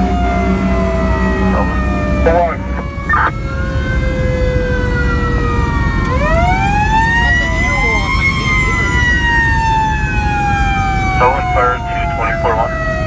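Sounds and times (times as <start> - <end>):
low rumble of truck engine: 0.0 - 13.0.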